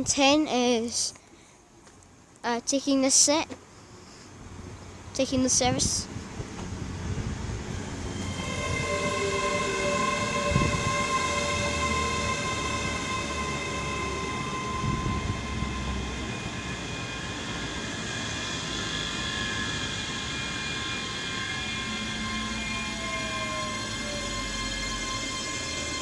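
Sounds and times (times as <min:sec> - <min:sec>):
train electrical equipment humming: 0:03.5 - 0:26.0.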